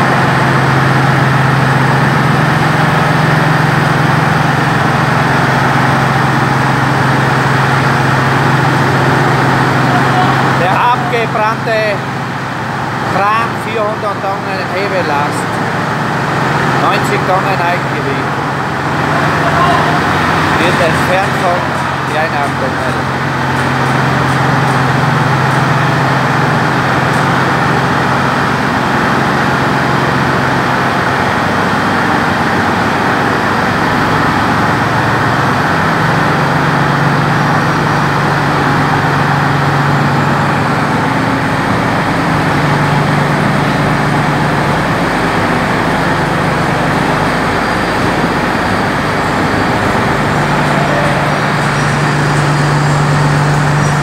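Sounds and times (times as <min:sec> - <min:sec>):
road noise: 0:00.0 - 0:54.0
vehicle engine humming: 0:00.0 - 0:54.0.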